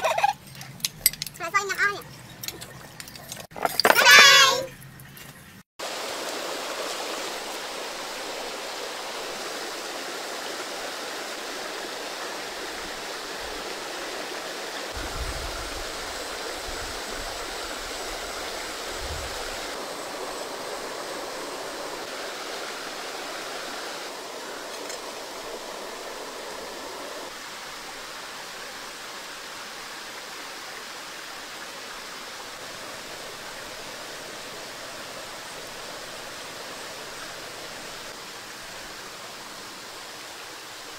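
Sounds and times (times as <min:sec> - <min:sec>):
stream water rushing: 0:05.8 - 0:40.9.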